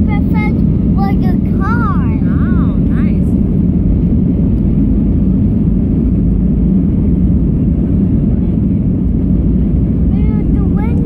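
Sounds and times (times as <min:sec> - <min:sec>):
airliner engine rumble in cabin: 0:00.0 - 0:11.0.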